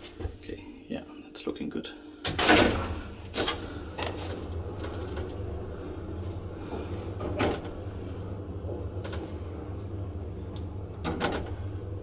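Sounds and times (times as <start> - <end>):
lift machinery humming: 2.1 - 12.0
elevator clunk: 2.2 - 12.0.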